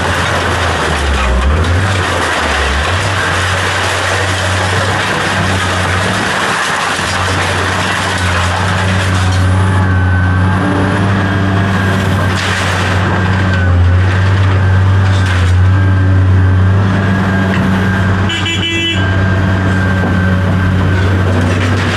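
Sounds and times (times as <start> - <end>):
vehicle engine droning: 0.0 - 21.9.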